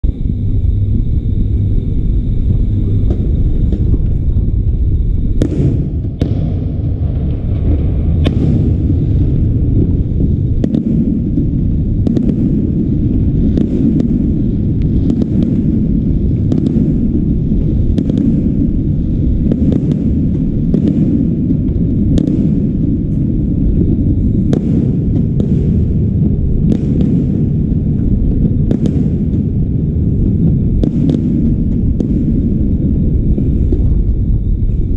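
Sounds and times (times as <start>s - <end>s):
low rumble of booms: 0.0s - 34.9s
firework shells bursting: 3.0s - 34.0s.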